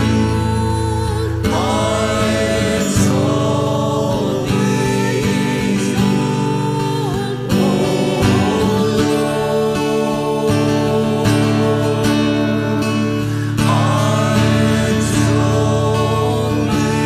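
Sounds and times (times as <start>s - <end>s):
voices singing: 0.0s - 17.0s.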